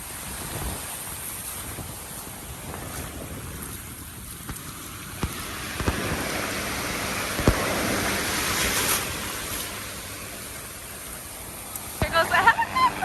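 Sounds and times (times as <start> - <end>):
ocean wave washing: 0.0 - 13.0.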